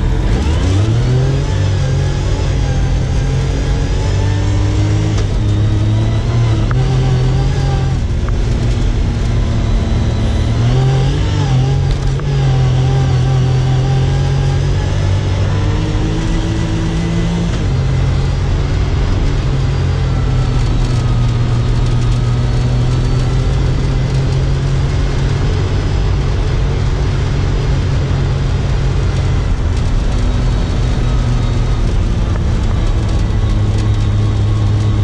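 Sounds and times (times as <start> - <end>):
off-road vehicle engine running hard: 0.0 - 35.0.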